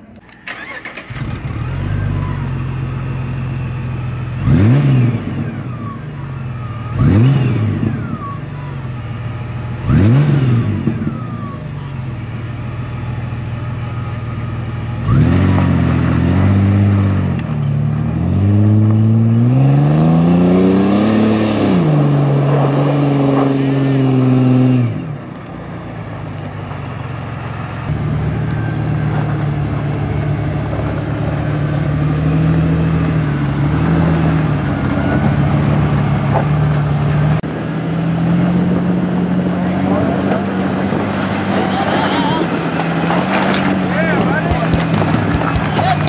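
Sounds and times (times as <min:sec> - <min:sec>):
car engine idling and revving: 0:00.0 - 0:46.0
car pulling away: 0:00.0 - 0:46.0.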